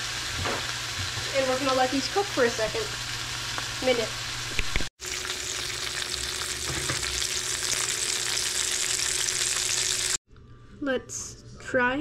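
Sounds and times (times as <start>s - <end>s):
fish sizzling in a frying pan: 0.0s - 10.2s.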